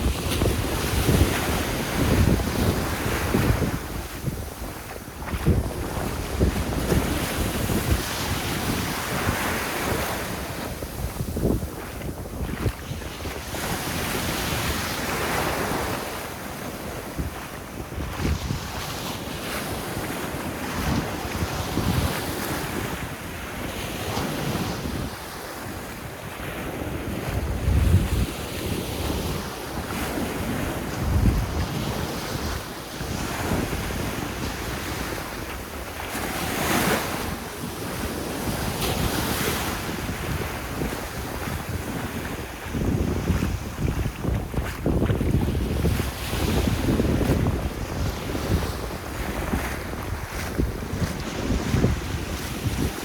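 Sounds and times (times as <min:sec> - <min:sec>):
waves washing onto a beach: 0:00.0 - 0:53.0
wind buffeting the microphone: 0:00.0 - 0:53.0.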